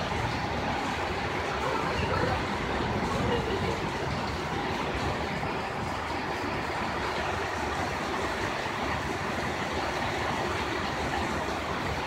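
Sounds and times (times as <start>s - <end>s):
heavy rain on concrete: 0.0s - 12.0s.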